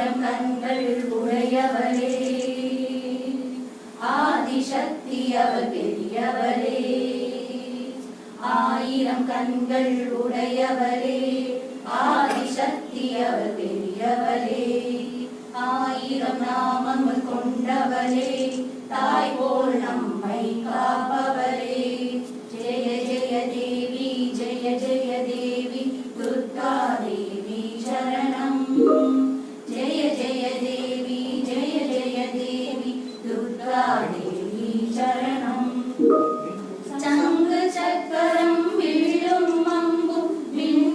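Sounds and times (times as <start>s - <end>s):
voices singing in unison: 0.0s - 40.9s.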